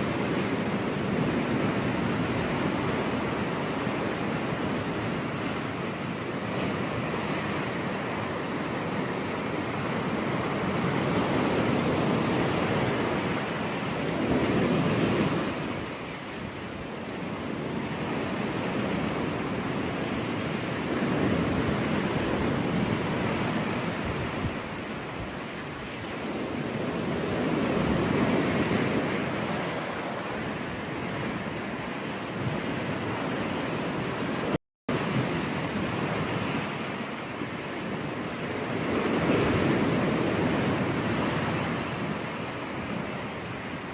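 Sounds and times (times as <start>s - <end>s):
ocean surf breaking: 0.0s - 43.9s
wind on microphone: 0.0s - 43.9s.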